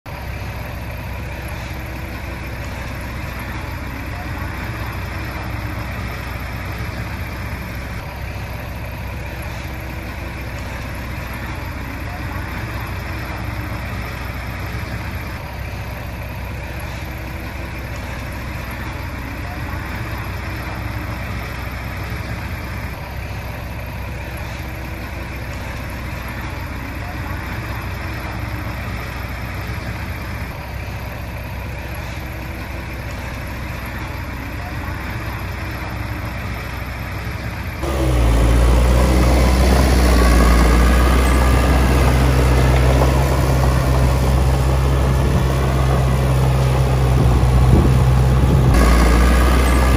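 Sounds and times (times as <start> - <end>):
scooter and truck engines idling: 0.1 - 49.9.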